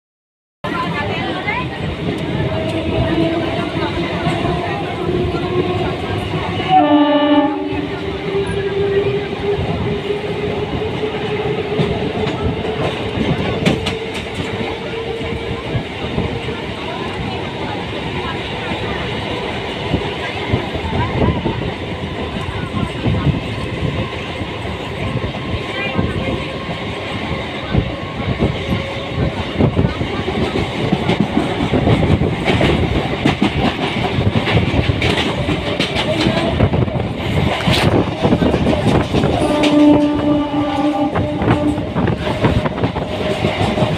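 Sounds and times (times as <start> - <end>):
train rumble and hum: 0.6 - 43.9.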